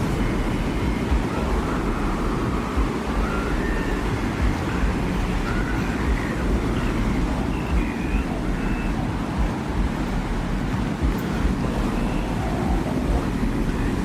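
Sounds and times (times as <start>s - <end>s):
faint high whistling tones: 0.0s - 14.0s
low rumbling wind: 0.0s - 14.0s.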